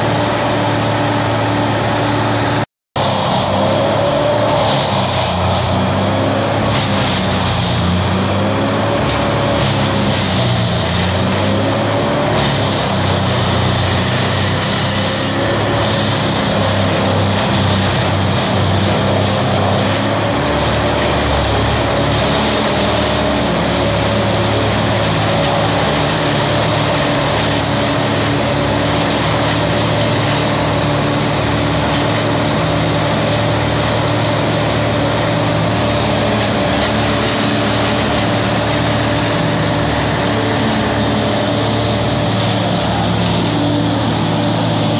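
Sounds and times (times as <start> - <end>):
wood chipper engine running: 0.0 - 44.9.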